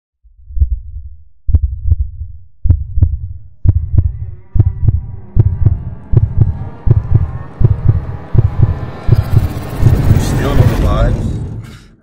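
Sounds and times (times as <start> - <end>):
double bass heartbeat thumps: 0.2 - 10.2.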